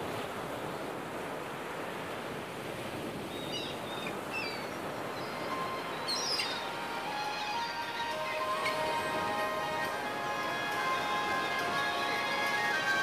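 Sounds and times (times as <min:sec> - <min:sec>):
surf washing up beach: 0:00.0 - 0:13.0.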